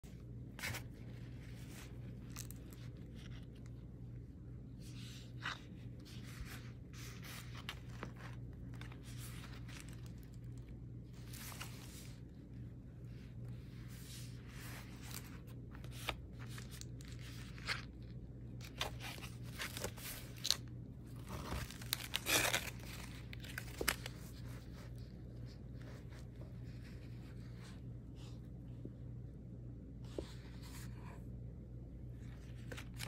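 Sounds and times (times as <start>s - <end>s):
steady low hum: 0.0s - 33.0s
paper rustling and crinkling: 0.2s - 4.0s, 4.7s - 28.4s, 32.2s - 33.0s.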